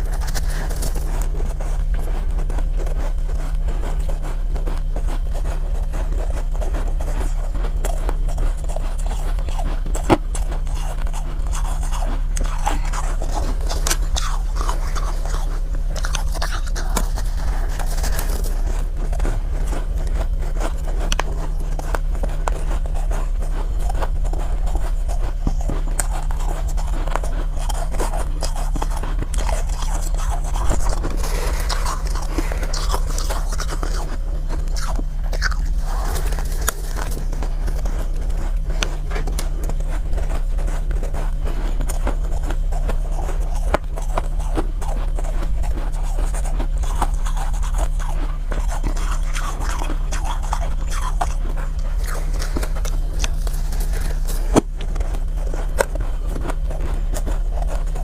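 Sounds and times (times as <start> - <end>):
ice being chewed: 0.0 - 58.0
steady low hum: 0.0 - 58.0.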